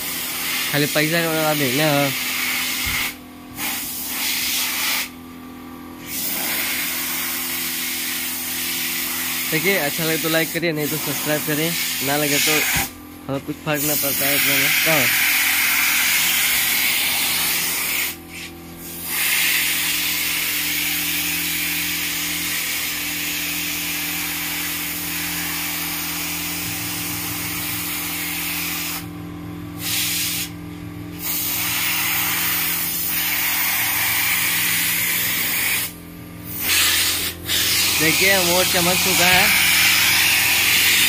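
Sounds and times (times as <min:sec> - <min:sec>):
steady low hum: 0:00.0 - 0:41.0
spray gun hissing: 0:00.1 - 0:05.1, 0:06.0 - 0:12.9, 0:13.8 - 0:29.1, 0:29.8 - 0:41.0.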